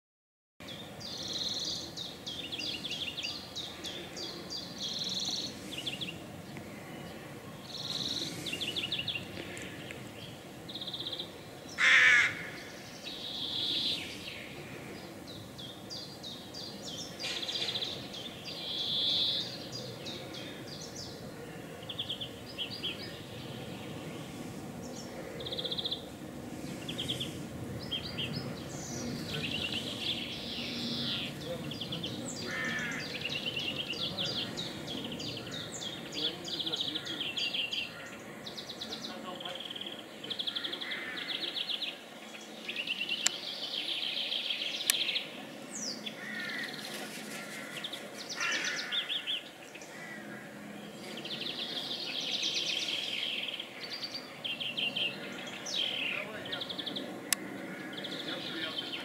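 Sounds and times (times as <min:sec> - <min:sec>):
small birds singing: 0:00.6 - 0:59.0.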